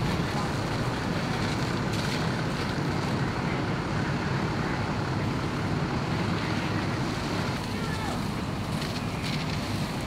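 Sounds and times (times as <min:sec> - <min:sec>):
fire engine pumps running: 0:00.0 - 0:10.0
hose streams spraying water: 0:00.0 - 0:10.0.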